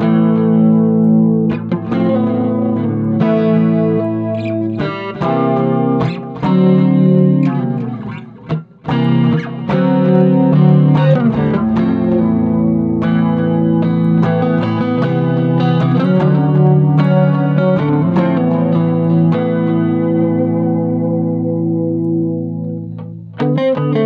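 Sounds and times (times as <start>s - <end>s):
guitar plucked notes and chords: 0.0s - 24.0s.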